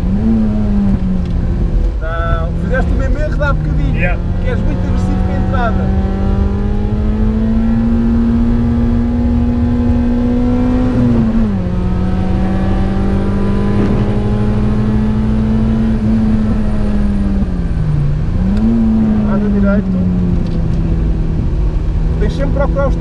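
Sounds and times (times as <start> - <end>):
car engine accelerating: 0.0 - 23.0
road and tyre rumble: 0.0 - 23.0.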